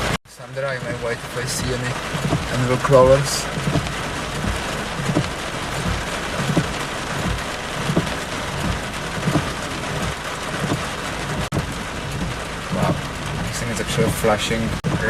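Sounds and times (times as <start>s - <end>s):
heavy rain on a car: 0.0s - 15.0s.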